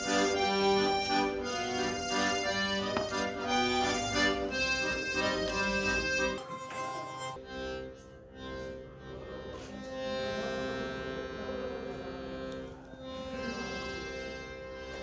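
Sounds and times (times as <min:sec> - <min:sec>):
accordion playing chords: 0:00.0 - 0:15.0.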